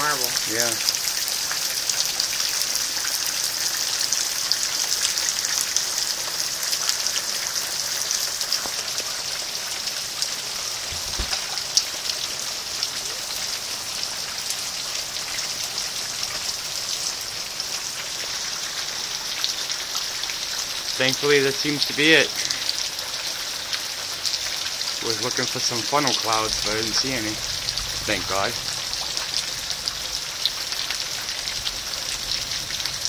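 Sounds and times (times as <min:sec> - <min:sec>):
rain on hard surfaces: 0:00.0 - 0:33.0.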